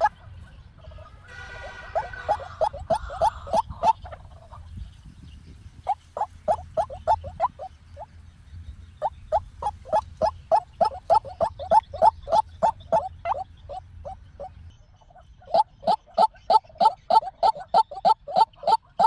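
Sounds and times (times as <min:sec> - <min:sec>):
waterhen calling: 0:01.0 - 0:04.6, 0:05.9 - 0:08.1, 0:09.0 - 0:19.0.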